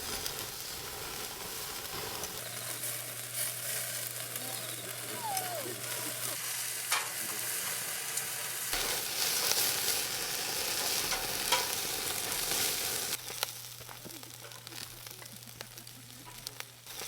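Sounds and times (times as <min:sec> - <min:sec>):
chicken sizzling: 0:00.0 - 0:17.0.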